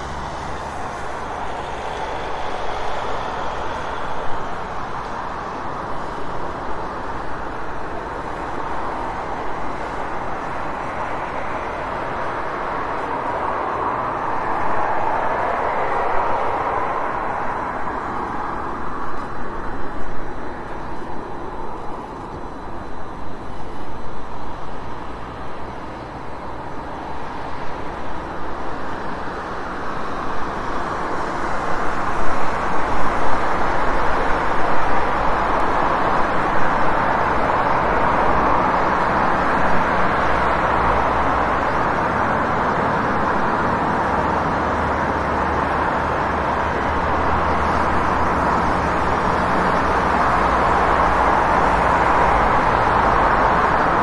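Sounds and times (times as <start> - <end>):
passing vehicles: 0.0 - 54.0.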